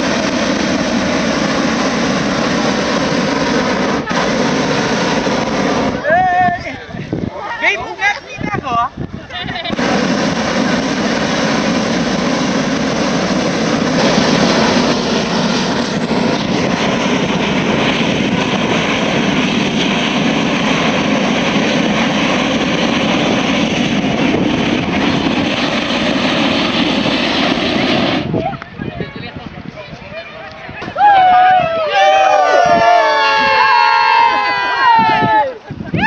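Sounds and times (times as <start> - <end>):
propane burner blast: 0.0 - 7.3, 9.0 - 28.6, 30.8 - 36.0.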